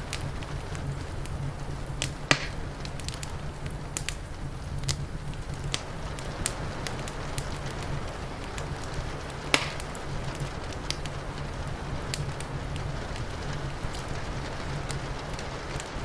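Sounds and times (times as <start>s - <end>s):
low continuous rumble: 0.0s - 16.0s
rain hissing: 0.0s - 16.0s
wood fire crackling and popping: 0.0s - 16.0s.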